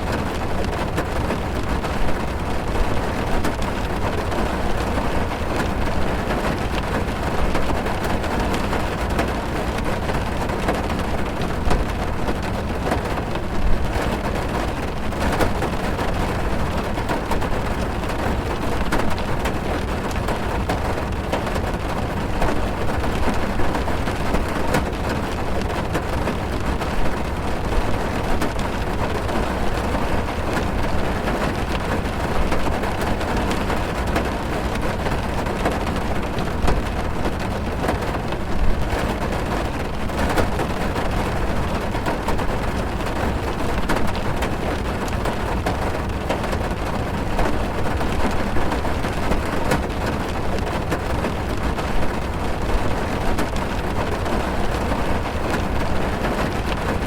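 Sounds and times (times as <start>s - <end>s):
heavy rain drumming on car roof: 0.0s - 57.0s.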